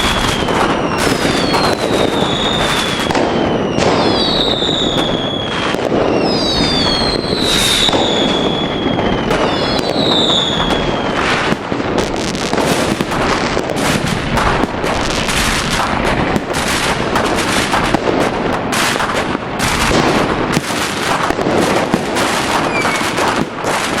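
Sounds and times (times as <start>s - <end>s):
firework bangs: 0.0s - 24.0s
rapid firework crackle: 0.0s - 24.0s
whistling firework shells: 0.0s - 24.0s.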